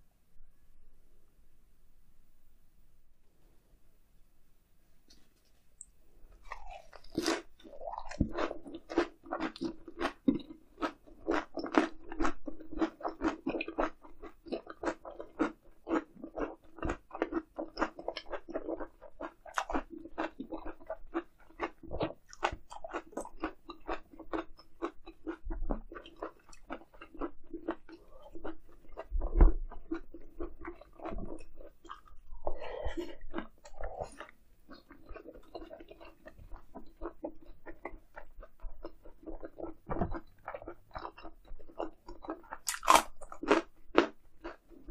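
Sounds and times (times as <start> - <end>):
chewing and crunching: 6.3 - 44.9.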